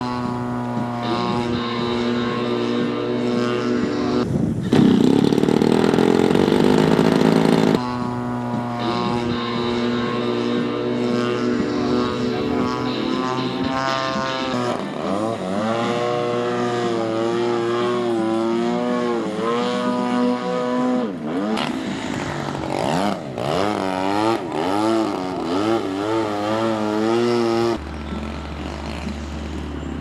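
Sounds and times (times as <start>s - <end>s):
model plane propeller and motor: 0.0s - 29.7s.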